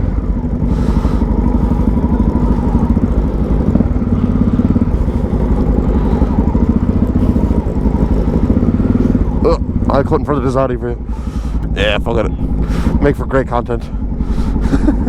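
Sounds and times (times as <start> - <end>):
motorcycle engine chugging: 0.0 - 15.0.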